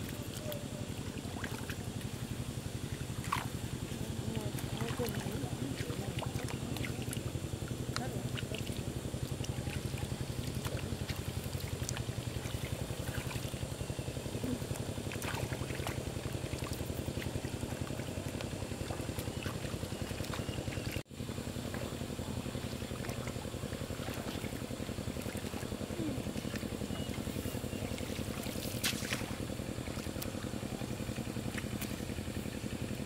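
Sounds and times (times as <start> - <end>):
small diesel tractor engine running: 0.0 - 33.0.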